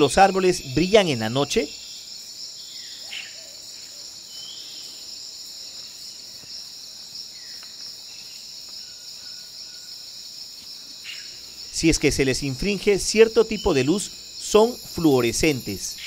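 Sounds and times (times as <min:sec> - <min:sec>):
insect chorus shrill drone: 0:00.0 - 0:16.0.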